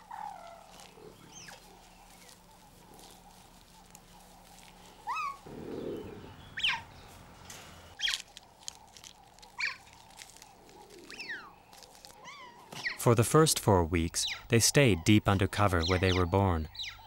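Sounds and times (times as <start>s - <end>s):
cheetah cub chirping: 0.0s - 7.2s, 7.9s - 13.0s, 14.0s - 17.0s.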